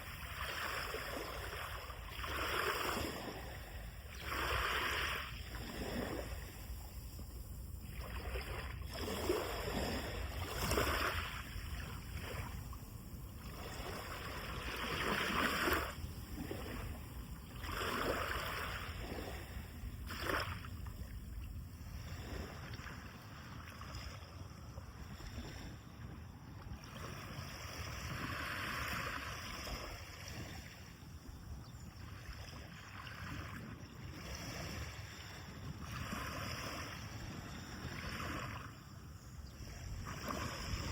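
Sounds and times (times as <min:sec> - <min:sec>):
waves breaking on beach: 0:00.0 - 0:40.9.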